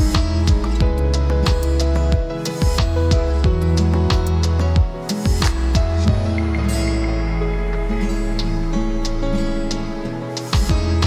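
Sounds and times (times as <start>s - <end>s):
soft slow instrumental music: 0.0s - 11.0s.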